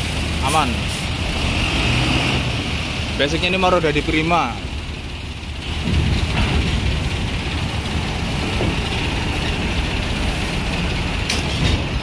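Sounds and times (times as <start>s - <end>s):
diesel bus engines rumbling: 0.0s - 12.0s.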